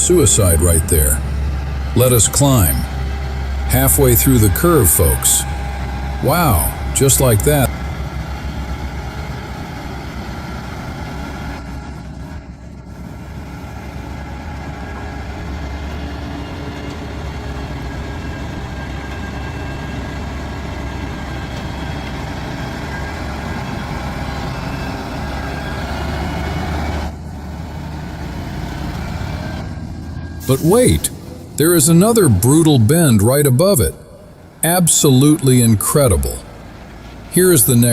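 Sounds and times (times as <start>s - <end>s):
truck engine under load: 0.0s - 37.9s.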